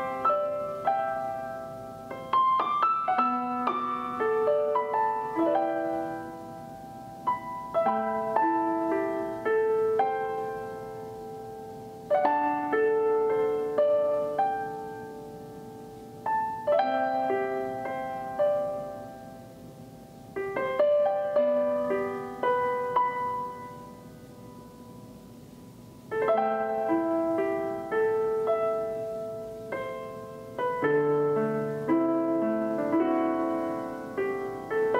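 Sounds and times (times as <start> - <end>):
gentle solo piano music: 0.0 - 34.9.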